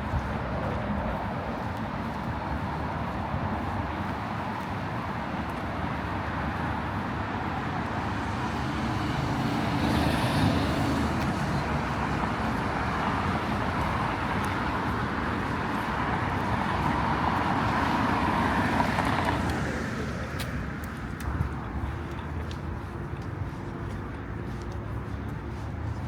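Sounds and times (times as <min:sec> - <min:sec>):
cars passing on street: 0:00.0 - 0:26.0.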